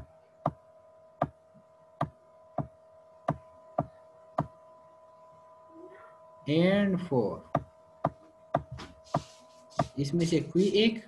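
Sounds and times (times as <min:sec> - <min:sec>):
high electrical hum: 0:00.0 - 0:11.0.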